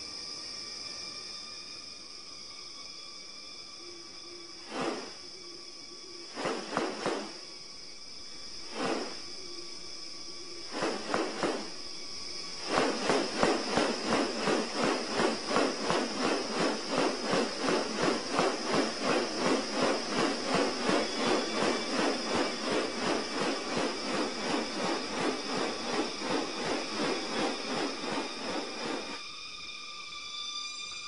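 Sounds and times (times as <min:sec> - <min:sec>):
high-pitched insect drone: 0:00.0 - 0:31.0
rasping insect pulses: 0:00.0 - 0:31.0.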